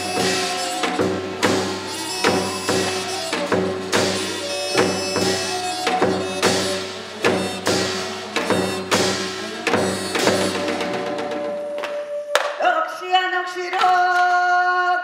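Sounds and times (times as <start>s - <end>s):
ringing percussion strikes: 0.0s - 12.5s.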